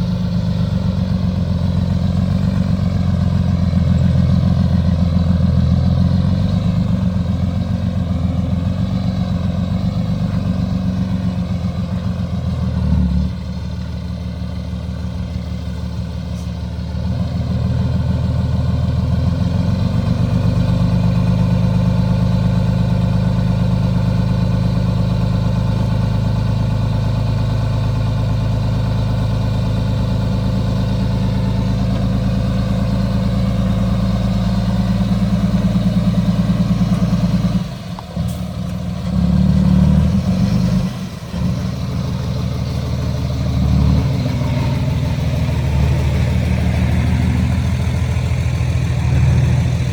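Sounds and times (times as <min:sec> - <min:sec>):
excavator engine running: 0:00.0 - 0:49.9.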